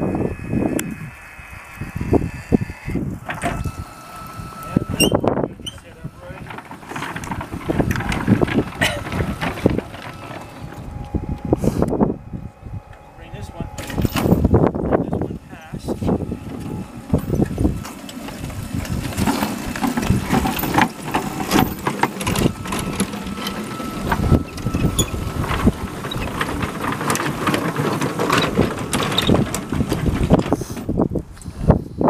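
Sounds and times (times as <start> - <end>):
miniature train rumbling on track: 3.2 - 32.0.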